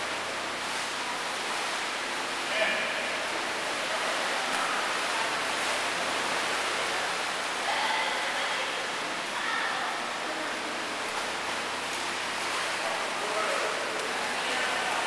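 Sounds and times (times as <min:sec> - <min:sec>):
water splashing in indoor pool: 0:00.0 - 0:15.0.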